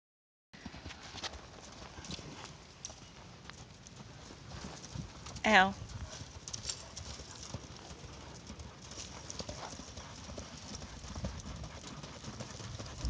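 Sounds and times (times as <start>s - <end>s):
horse hoofbeats: 0.6s - 13.0s.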